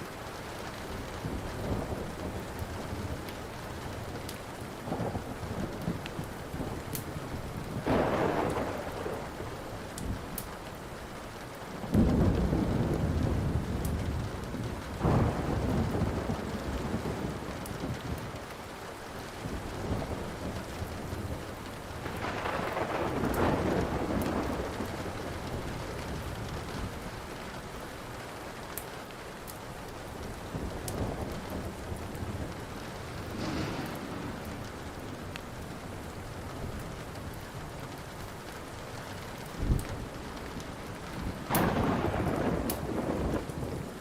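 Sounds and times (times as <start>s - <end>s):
thunder rumbling: 0.0s - 10.9s, 11.8s - 28.6s, 29.7s - 44.0s
steady rain: 0.0s - 44.0s
wood fire crackling: 0.0s - 44.0s.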